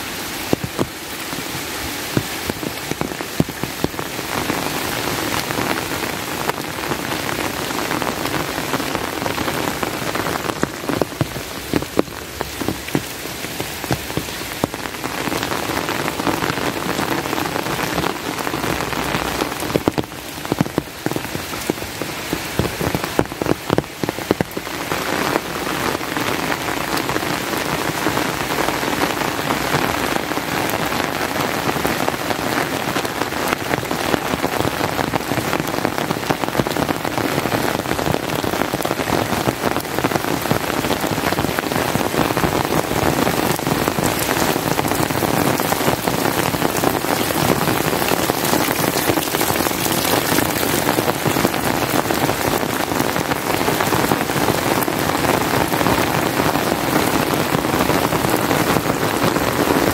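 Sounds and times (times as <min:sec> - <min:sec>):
steady rain falling: 0:00.0 - 0:59.9
raindrops ticking: 0:00.2 - 0:59.9.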